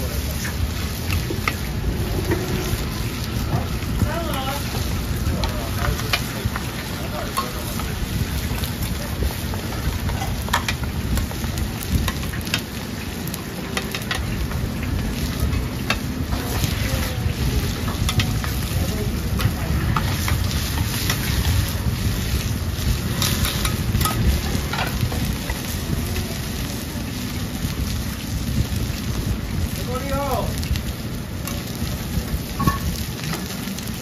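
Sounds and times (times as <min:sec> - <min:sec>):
low rumble: 0:00.0 - 0:12.6, 0:14.1 - 0:33.2
food sizzling in hot oil: 0:00.0 - 0:34.0.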